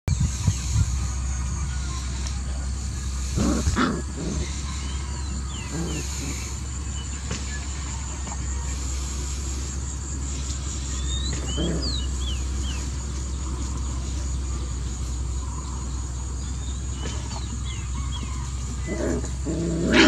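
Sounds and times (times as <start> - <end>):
low rumble: 0.0 - 19.9
birds chirping: 0.1 - 20.0
puppies growling: 0.4 - 20.0.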